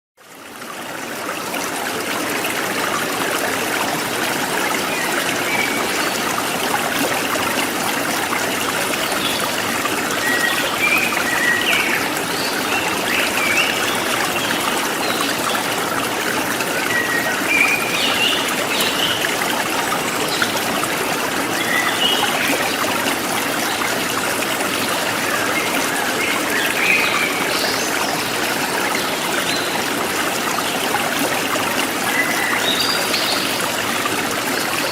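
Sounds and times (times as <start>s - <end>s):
river water flowing over stones: 0.2s - 34.9s.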